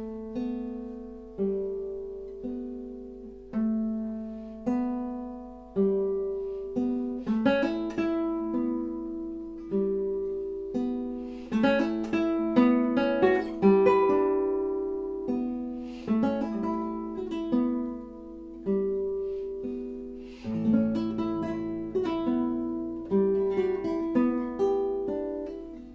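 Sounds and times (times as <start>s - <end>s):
classical guitar fingerstyle: 0.0s - 25.9s.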